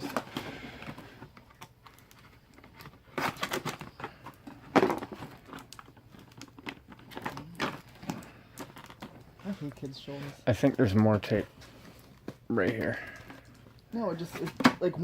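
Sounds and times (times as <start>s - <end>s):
packaging rustling and crackling: 0.0s - 15.0s.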